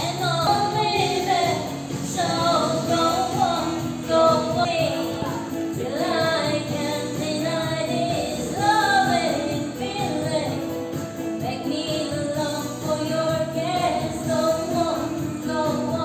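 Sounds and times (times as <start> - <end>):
pop backing track: 0.0 - 16.0
woman singing into microphone: 0.0 - 16.0.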